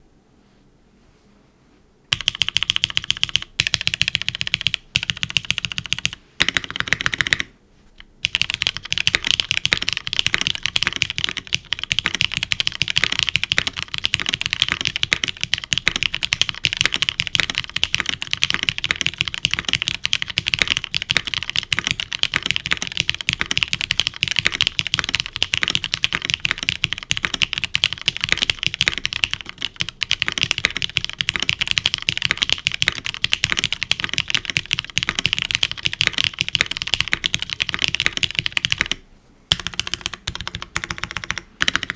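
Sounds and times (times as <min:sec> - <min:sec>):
mechanical keyboard typing: 0:02.1 - 0:41.9.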